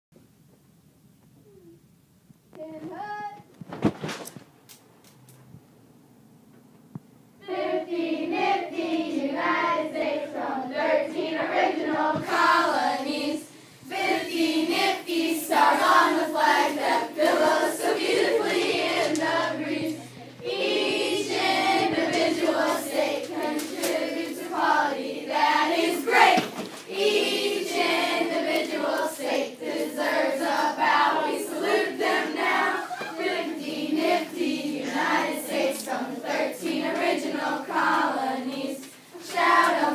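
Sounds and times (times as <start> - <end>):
children chanting a rap: 7.4 - 39.9.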